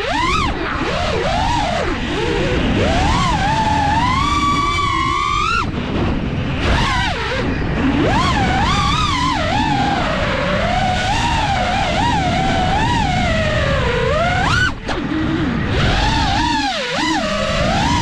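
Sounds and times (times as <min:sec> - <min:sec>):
drone motors whining: 0:00.0 - 0:18.0
wind rush on camera: 0:00.0 - 0:18.0.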